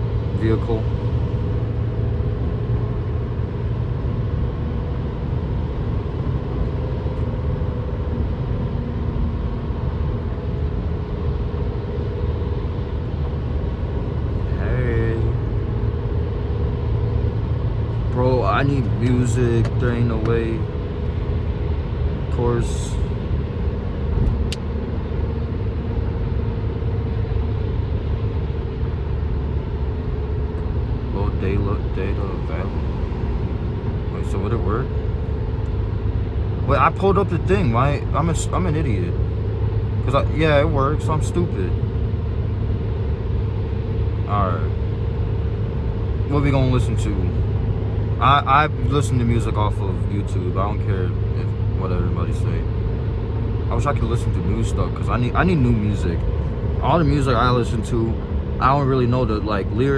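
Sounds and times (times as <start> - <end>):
car road and engine noise: 0.0 - 59.9
faint steady hum: 0.0 - 59.9.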